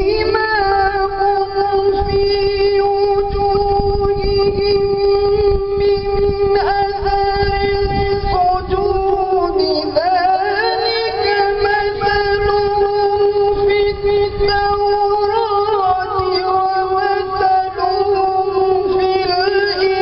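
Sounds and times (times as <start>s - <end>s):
man chanting recitation: 0.0s - 20.0s.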